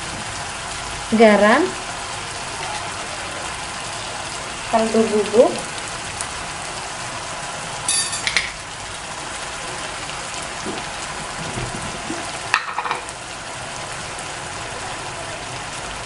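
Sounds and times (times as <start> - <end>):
vegetables sizzling in wok: 0.0 - 16.0.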